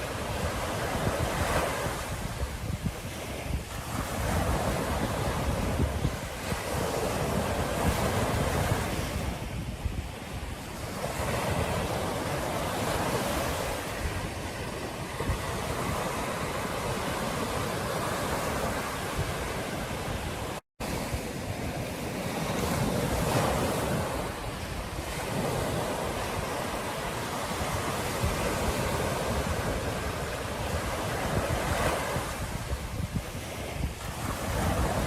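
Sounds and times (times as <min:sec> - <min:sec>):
ocean surf on a beach: 0:00.0 - 0:35.0
wind buffeting microphone: 0:00.0 - 0:35.0.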